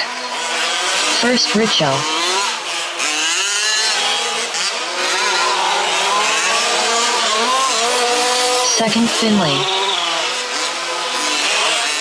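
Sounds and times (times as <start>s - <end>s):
small two-stroke engines revving: 0.0s - 12.0s.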